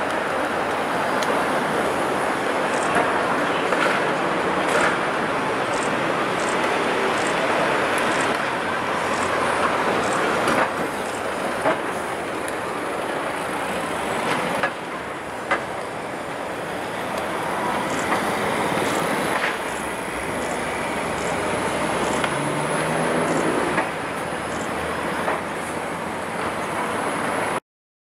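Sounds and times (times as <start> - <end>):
cars passing: 0.0 - 27.6.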